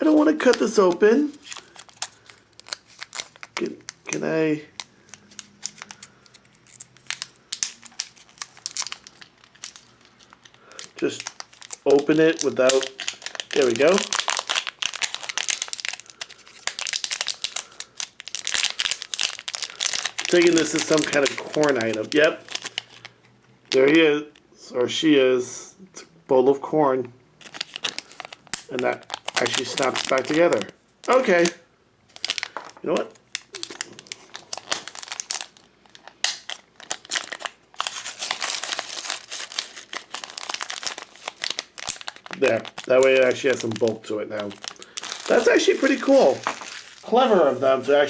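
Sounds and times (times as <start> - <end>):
plastic packaging crinkling: 0.0 - 24.0, 27.4 - 48.0.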